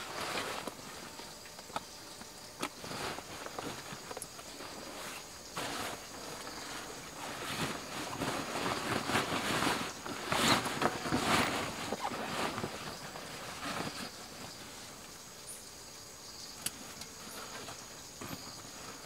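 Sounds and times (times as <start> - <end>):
backpack and cloth rustling: 0.0 - 15.2, 16.8 - 19.0
leaves crackling underfoot: 0.0 - 15.3.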